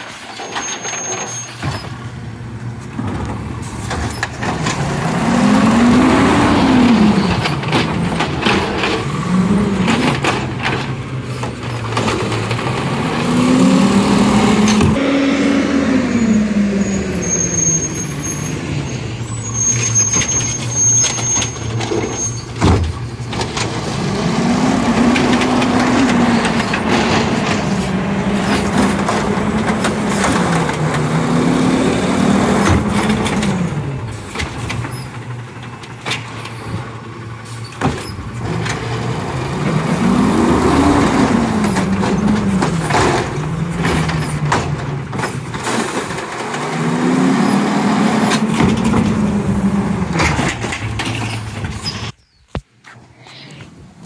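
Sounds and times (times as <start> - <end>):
clanks and knocks of carts: 0.0 - 15.0, 16.8 - 52.2
garbage truck engine revving: 0.0 - 52.2.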